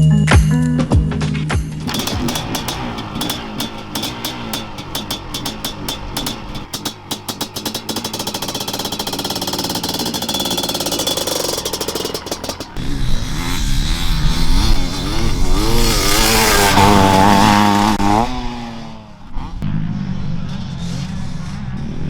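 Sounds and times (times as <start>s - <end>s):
two-stroke motocross engine revving: 1.8s - 19.6s.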